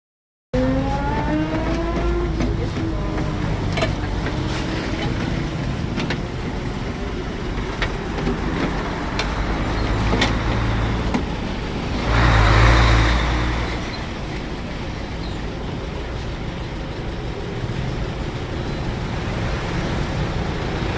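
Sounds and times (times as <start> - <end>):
low vehicle rumble: 0.6 - 20.9
rushing noise: 0.6 - 20.9.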